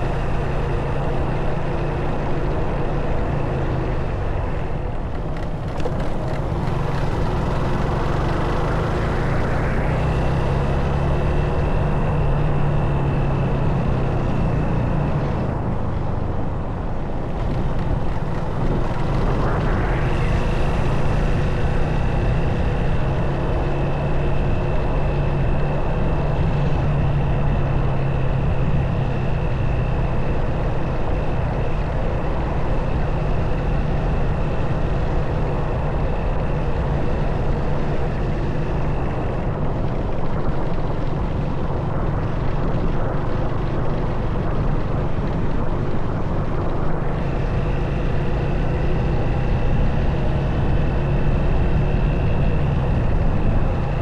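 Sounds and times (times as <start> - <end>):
engine whine climbing in pitch: 0.0 - 54.0
wind and road noise: 0.0 - 54.0
motorcycle engine running: 0.1 - 54.0.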